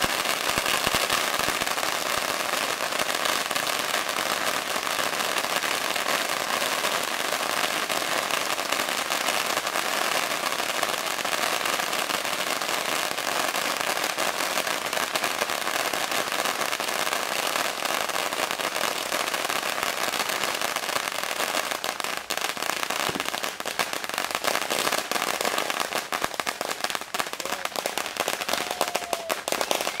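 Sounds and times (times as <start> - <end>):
firecrackers crackling: 0.0 - 30.0.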